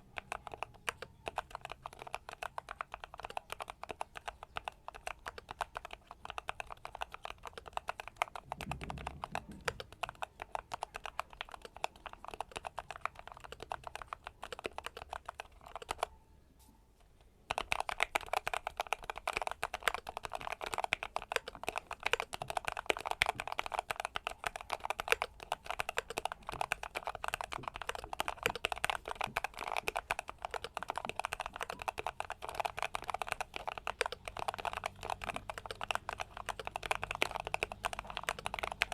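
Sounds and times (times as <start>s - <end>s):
typing on mechanical keyboard: 0.0s - 16.1s, 17.5s - 38.9s.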